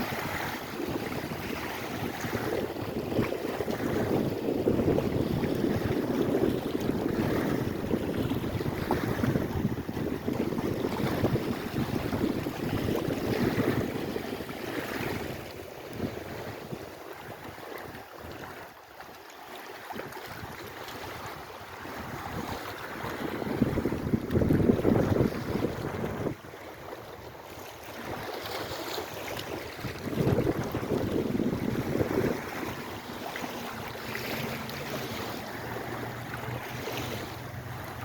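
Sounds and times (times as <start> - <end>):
wind buffeting microphone: 0.0 - 18.6, 19.9 - 38.0
waves washing in: 0.0 - 38.0.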